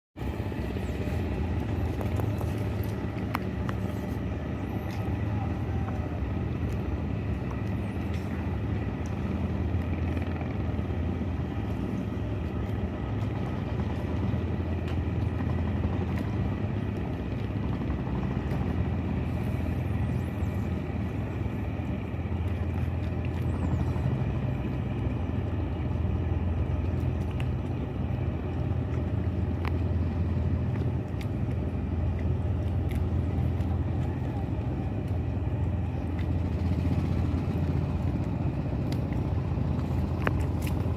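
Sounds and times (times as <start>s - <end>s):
boat engine droning: 0.2s - 40.9s.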